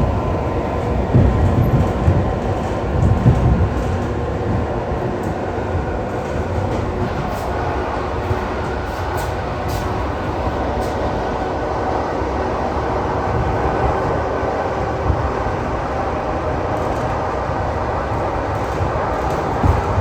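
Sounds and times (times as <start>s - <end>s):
train motors and wheels rumbling: 0.0s - 20.0s.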